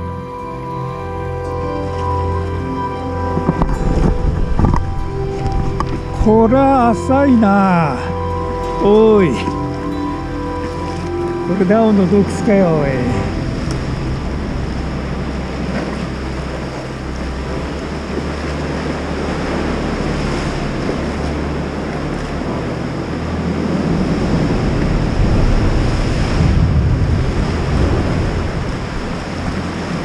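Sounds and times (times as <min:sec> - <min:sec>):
wind rumbling on microphone: 0:01.9 - 0:30.0
sea swell surging against rocks: 0:02.8 - 0:30.0.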